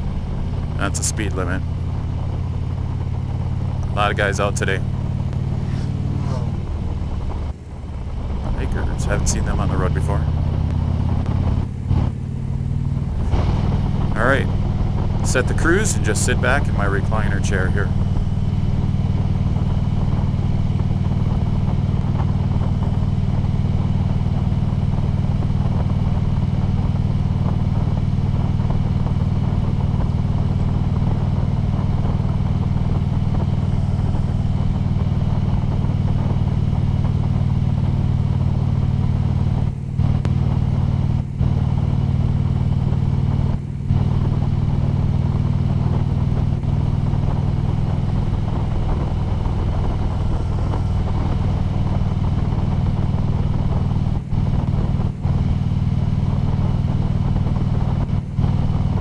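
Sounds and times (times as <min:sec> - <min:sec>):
motorcycle engine running steadily: 0:00.0 - 0:59.0.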